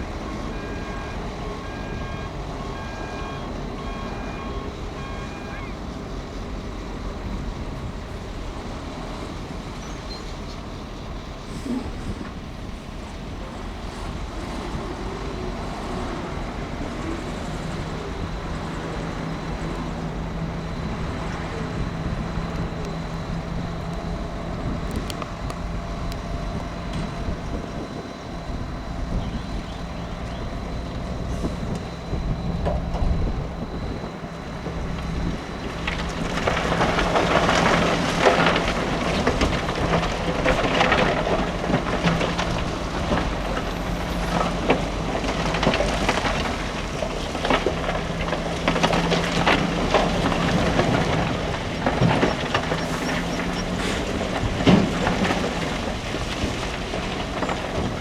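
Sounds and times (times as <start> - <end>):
diesel machinery engine drone: 0.0 - 58.0
gravel and rock rattling: 5.1 - 58.0.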